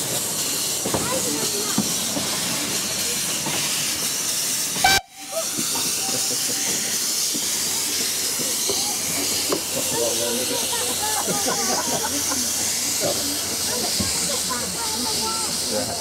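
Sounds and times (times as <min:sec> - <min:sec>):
loud hiss of escaping steam: 0:00.0 - 0:16.0.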